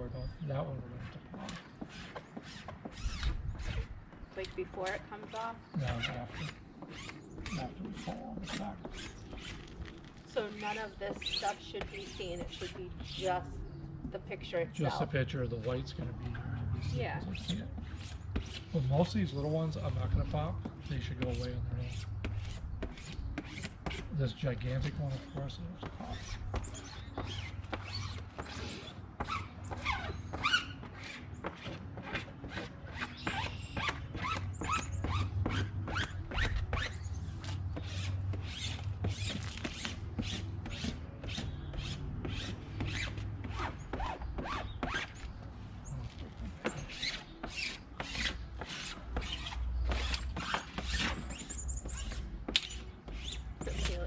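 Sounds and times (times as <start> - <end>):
squeaky rubbing strokes: 0.1 - 54.0.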